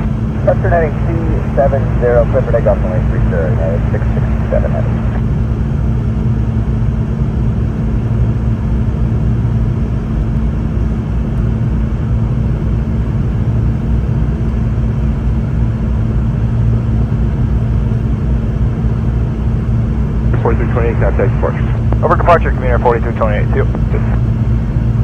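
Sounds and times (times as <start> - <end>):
jet engines humming: 0.0 - 25.0.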